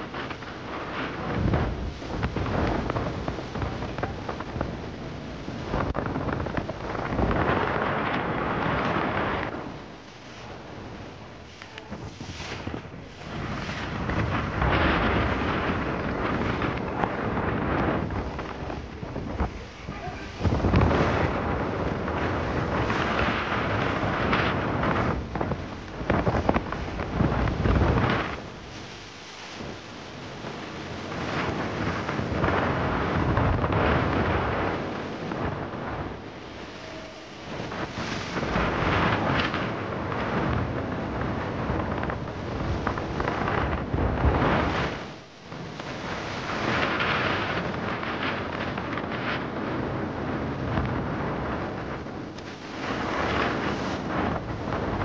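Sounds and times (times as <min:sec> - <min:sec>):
sharp crackles: 0:00.0 - 0:49.9
water rushing along hull: 0:00.0 - 0:55.0
wind buffeting microphone: 0:00.0 - 0:55.0.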